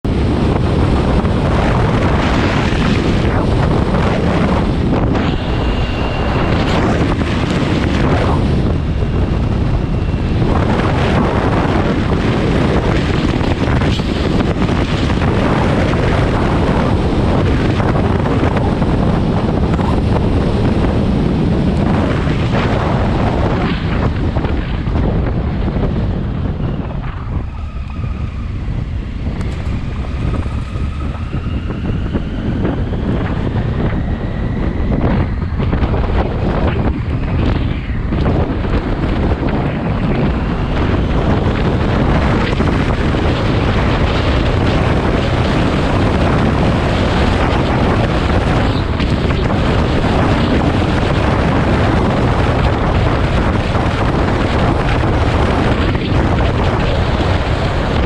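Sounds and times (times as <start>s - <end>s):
faint motorcycle whine: 0.0s - 58.0s
wind buffeting microphone: 0.0s - 58.0s.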